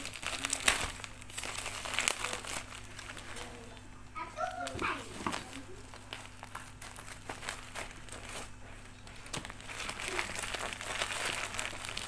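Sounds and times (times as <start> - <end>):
plastic parcel wrapping crinkling: 0.0 - 3.8, 4.4 - 12.0
steady low hum: 0.0 - 12.0.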